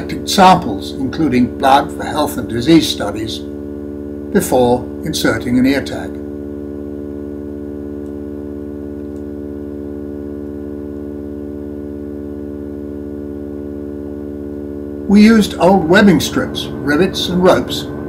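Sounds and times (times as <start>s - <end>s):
low held tones humming: 0.0s - 18.0s.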